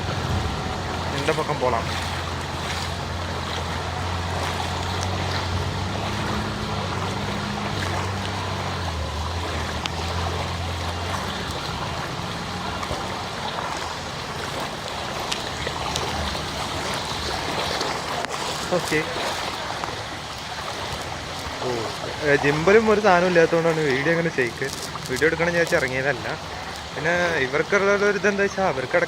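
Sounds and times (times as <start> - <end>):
vehicle engine humming: 0.0 - 29.0
water washing: 0.0 - 29.0.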